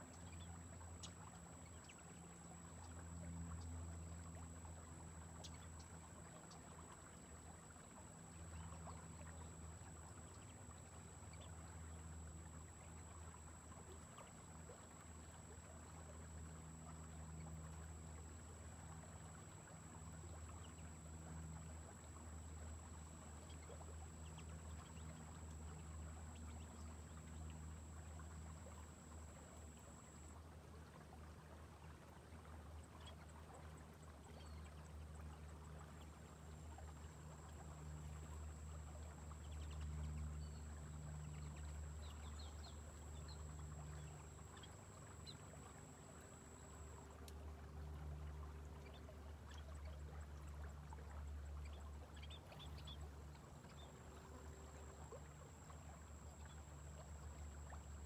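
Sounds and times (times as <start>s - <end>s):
thin high-pitched whine: 0.0s - 31.9s, 32.8s - 58.0s.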